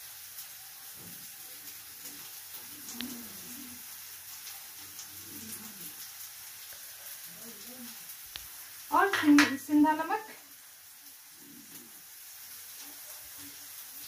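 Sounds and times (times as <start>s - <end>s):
potato slices sizzling in oil: 0.0s - 14.0s.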